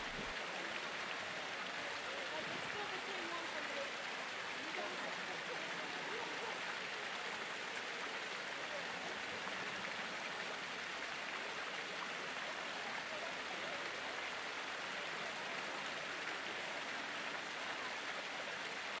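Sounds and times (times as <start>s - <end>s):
fountain jets splashing: 0.0s - 19.0s.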